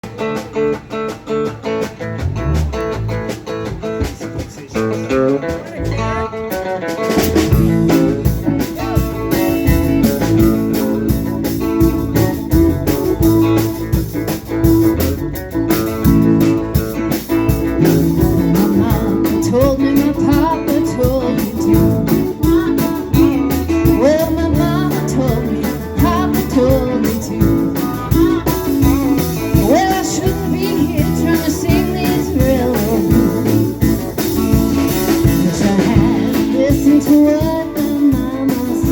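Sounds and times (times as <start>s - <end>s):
live blues-rock band: 0.0s - 38.9s.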